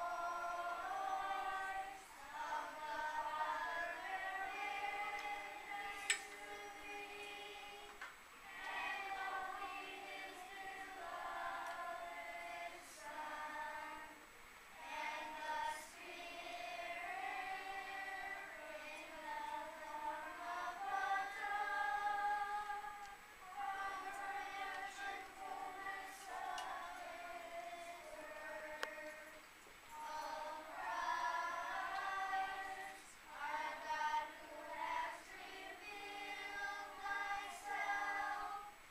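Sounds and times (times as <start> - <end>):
children's choir singing: 0.0 - 38.9.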